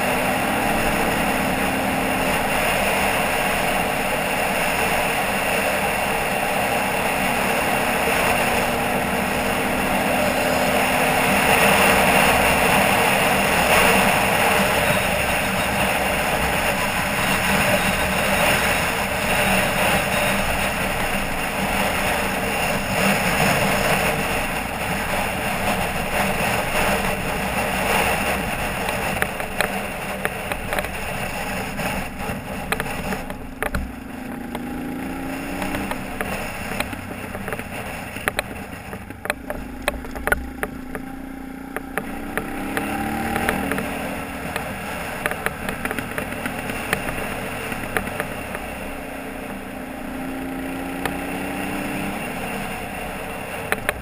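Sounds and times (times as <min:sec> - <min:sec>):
motorcycle engine running: 0:00.0 - 0:54.0
steady rushing noise: 0:00.0 - 0:54.0.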